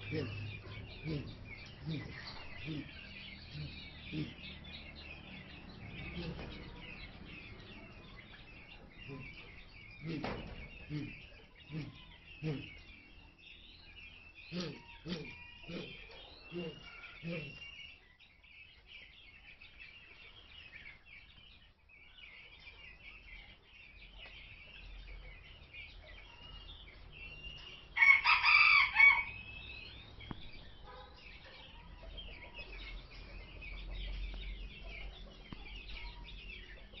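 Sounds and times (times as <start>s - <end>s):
small birds twittering: 0.0s - 37.0s.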